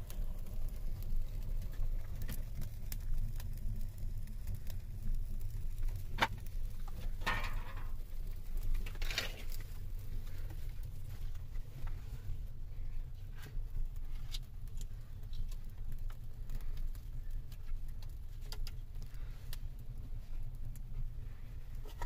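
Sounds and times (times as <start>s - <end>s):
low steady rumble: 0.0s - 22.0s
wood fire crackling and popping: 0.0s - 22.0s.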